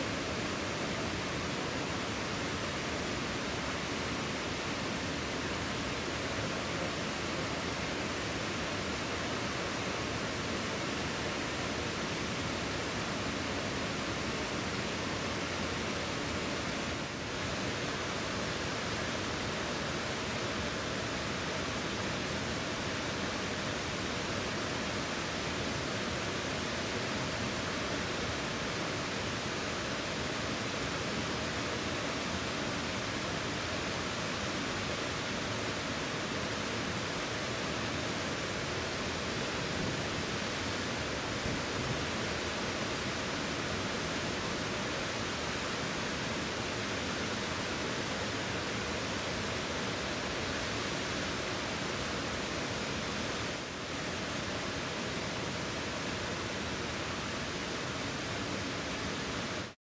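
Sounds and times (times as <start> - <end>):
stream water flowing: 0.0 - 59.8.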